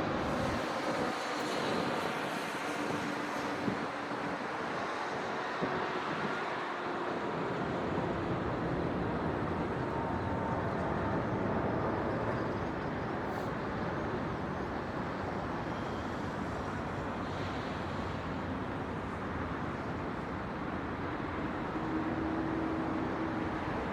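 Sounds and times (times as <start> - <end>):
distant city traffic hum: 0.0 - 23.9.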